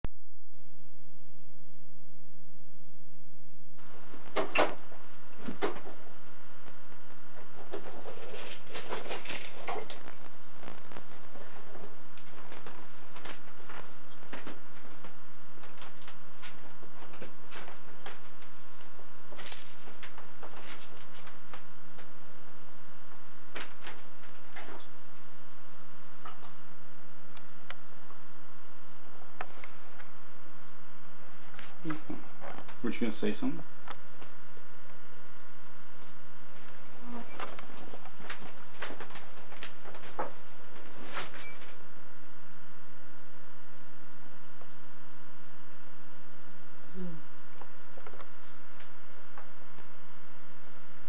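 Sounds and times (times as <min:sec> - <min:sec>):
tape hiss: 0:00.1 - 0:51.0
electrical hum with faint tone: 0:00.5 - 0:51.0.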